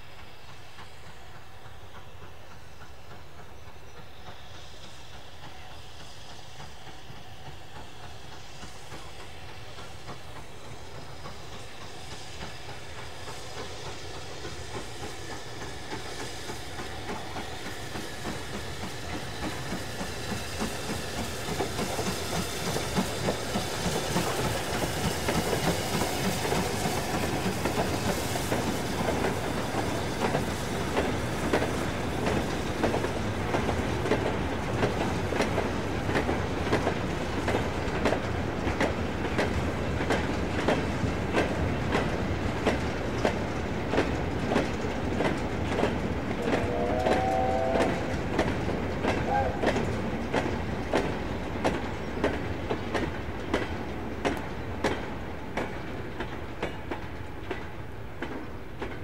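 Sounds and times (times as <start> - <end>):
steam locomotive hiss and exhaust: 0.0 - 59.0.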